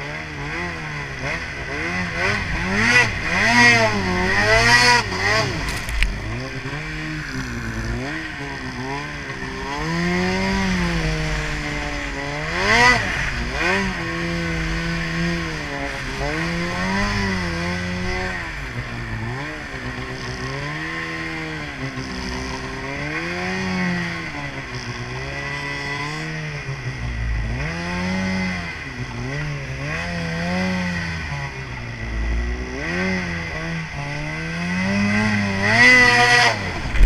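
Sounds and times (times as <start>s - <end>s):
snowmobile engine revving: 0.0s - 37.0s.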